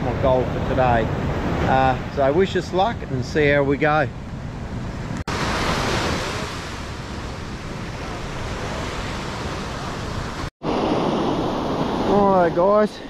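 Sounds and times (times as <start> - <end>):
ocean surf washing on beach: 0.0 - 4.1, 4.8 - 13.0
wind: 0.0 - 13.0.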